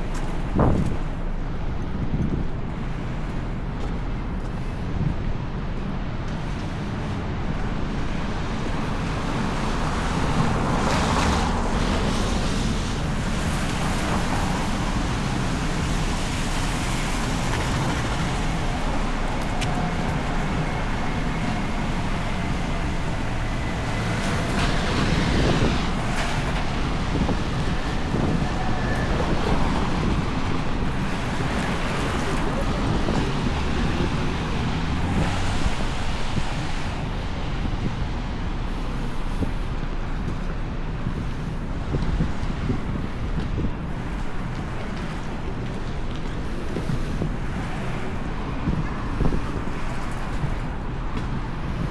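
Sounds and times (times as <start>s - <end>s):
cars passing: 0.0s - 51.9s
wind buffeting microphone: 0.0s - 51.9s.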